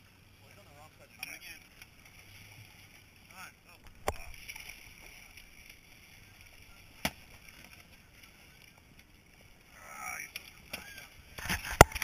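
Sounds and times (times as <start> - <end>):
faint water sloshing: 0.0 - 12.0.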